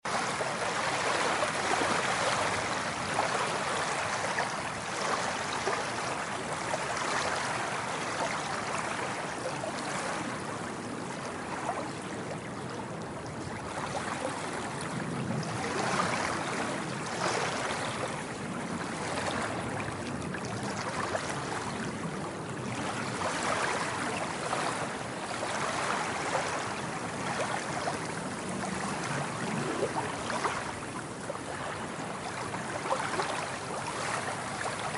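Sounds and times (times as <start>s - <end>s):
sea waves washing in: 0.1s - 34.9s.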